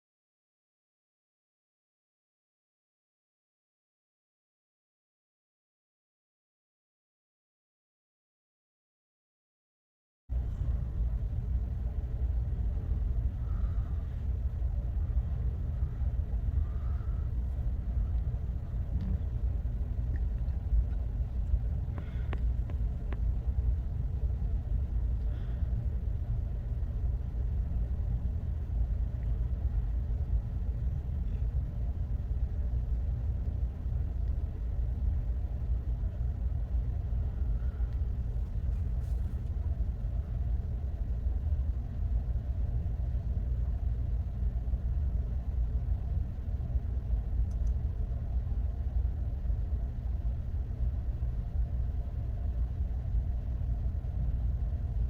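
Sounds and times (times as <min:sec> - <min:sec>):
faint hum: 0:10.3 - 0:55.0
ship engine rumble: 0:10.3 - 0:55.0.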